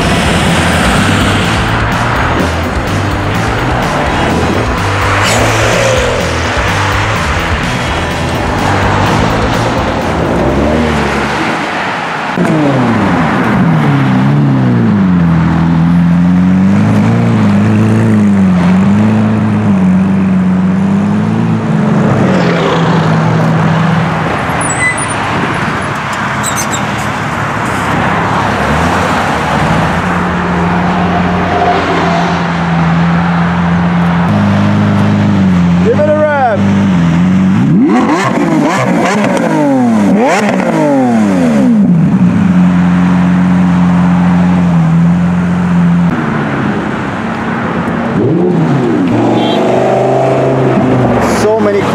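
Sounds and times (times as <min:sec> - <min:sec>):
sports car engines running: 0:00.0 - 0:31.5, 0:32.5 - 0:51.9
road traffic noise: 0:00.0 - 0:51.9.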